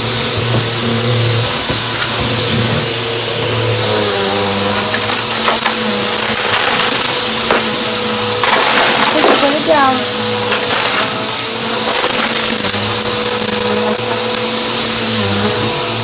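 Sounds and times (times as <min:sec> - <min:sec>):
debris crackling in vacuum: 0:00.0 - 0:16.0
vacuum cleaner running: 0:00.0 - 0:16.0.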